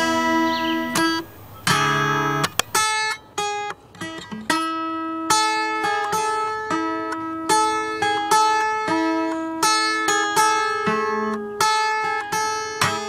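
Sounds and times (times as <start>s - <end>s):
guitar picking notes: 0.0s - 13.0s.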